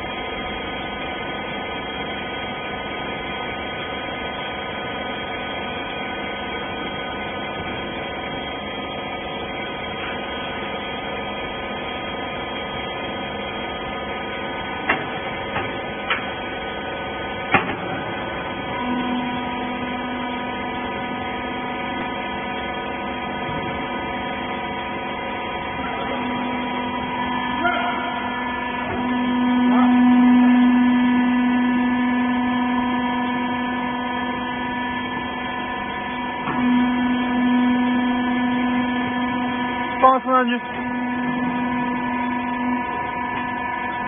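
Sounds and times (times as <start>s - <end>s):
hydraulic power unit humming: 0.0s - 44.0s.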